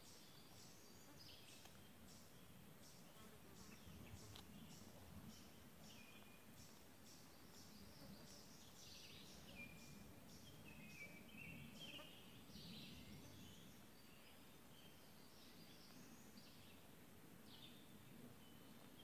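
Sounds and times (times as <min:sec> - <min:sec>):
bird chirping: 0:00.0 - 0:16.8
low steady hiss: 0:00.0 - 0:19.0.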